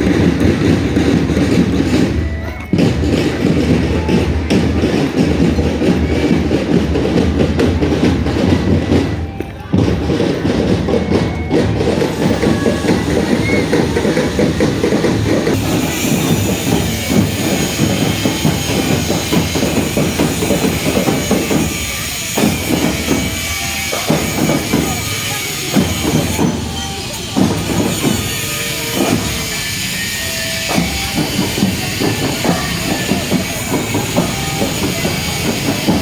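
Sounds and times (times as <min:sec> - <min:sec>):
marching drum band playing: 0:00.0 - 0:36.0.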